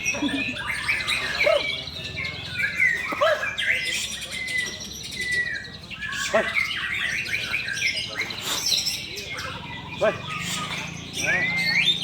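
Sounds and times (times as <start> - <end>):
bird singing whistles and trills: 0.0 - 12.0.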